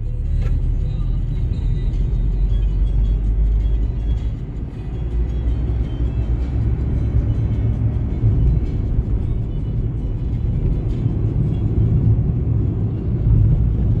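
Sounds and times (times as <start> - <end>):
car road noise: 0.0 - 14.0.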